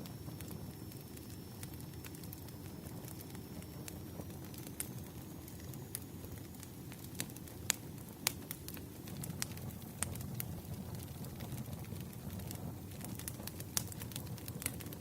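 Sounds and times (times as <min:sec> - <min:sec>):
campfire crackling and popping: 0:00.0 - 0:15.0
campfire low rush: 0:00.0 - 0:15.0.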